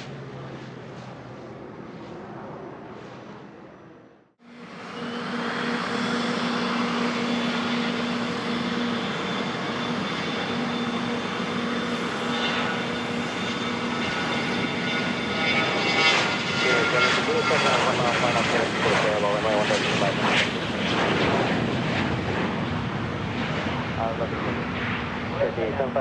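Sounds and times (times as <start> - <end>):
jet engines humming and whining: 0.0 - 26.0.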